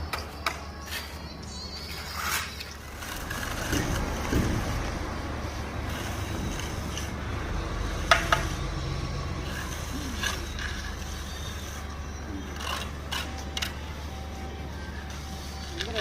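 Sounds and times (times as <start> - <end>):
metallic clanks and scrapes: 0.4 - 14.3
engine running: 2.8 - 16.0.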